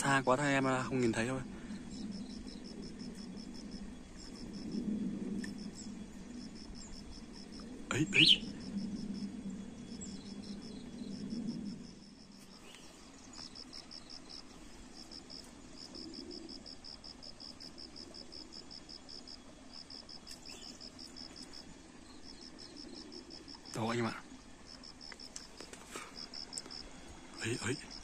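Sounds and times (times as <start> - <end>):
insect chirping: 0.0 - 28.0
low hum: 0.0 - 28.0.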